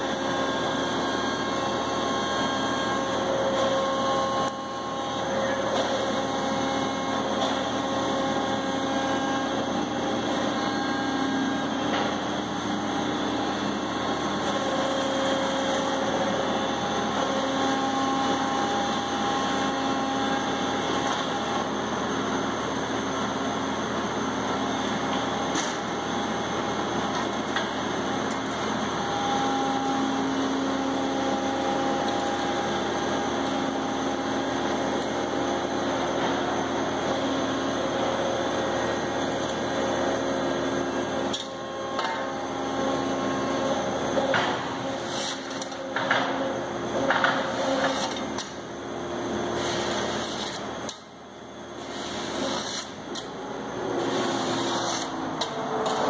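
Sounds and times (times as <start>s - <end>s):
hydraulic machine droning and whining: 0.0s - 56.0s.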